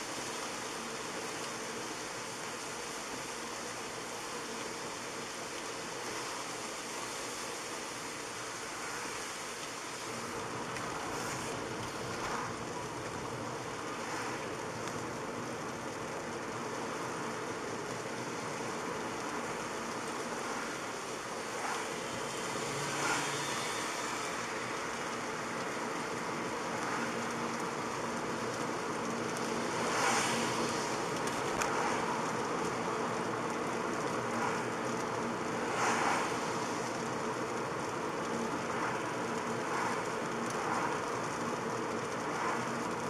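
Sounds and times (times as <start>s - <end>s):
tyre hiss on wet road: 0.0s - 43.0s.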